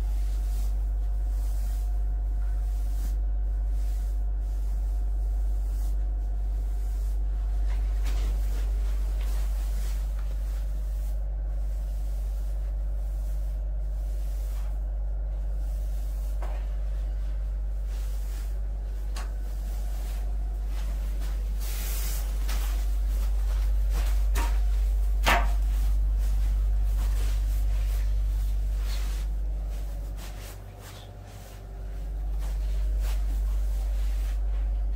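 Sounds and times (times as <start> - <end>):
low machine hum: 0.0 - 34.9.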